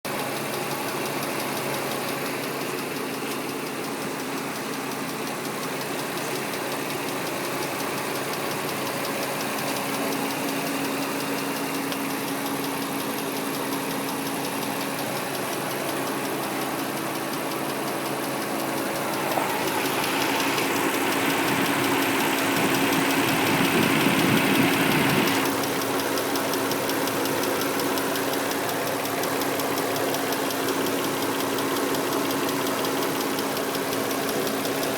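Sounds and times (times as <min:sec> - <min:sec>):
car engine idling with ticking: 0:00.0 - 0:34.9.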